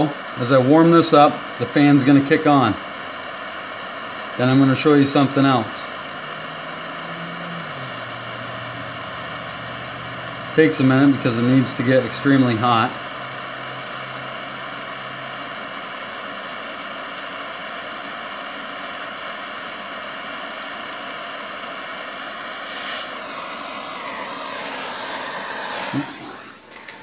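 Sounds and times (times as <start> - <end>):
gas torch flame hissing: 0.0 - 27.0.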